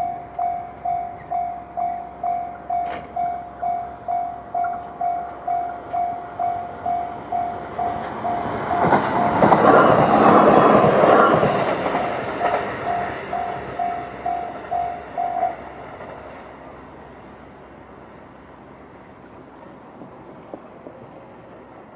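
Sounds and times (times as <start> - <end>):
level crossing warning bell: 0.0 - 17.6
electric train passing: 0.0 - 21.9.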